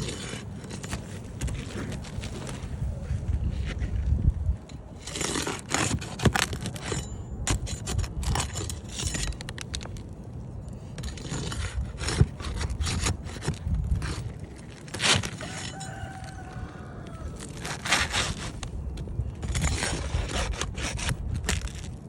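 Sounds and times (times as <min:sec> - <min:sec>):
hand tools scraping shingles: 0:00.0 - 0:02.8, 0:04.7 - 0:10.1, 0:10.7 - 0:22.0.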